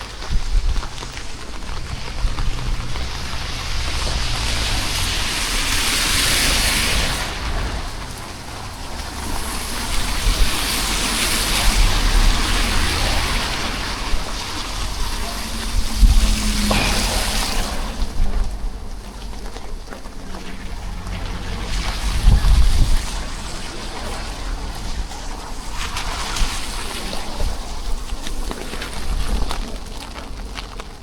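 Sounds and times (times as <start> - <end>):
low rumble: 0.0 - 26.2
rain hiss: 0.0 - 30.6
wind buffeting microphone: 0.0 - 31.0.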